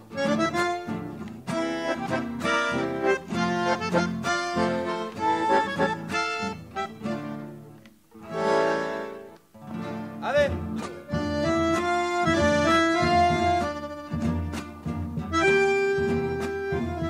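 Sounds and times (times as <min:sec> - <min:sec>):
accordion playing chords: 0:00.0 - 0:17.0.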